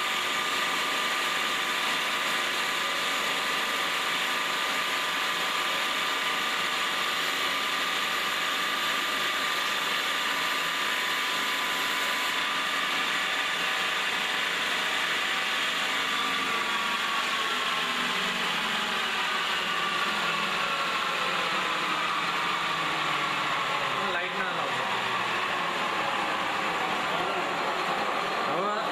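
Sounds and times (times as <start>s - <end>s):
lathe motor whine: 0.0s - 28.9s.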